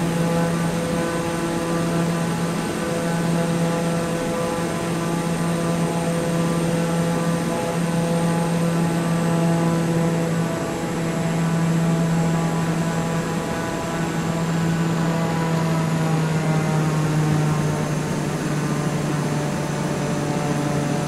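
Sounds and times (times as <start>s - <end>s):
machine humming with high whine: 0.0s - 21.0s.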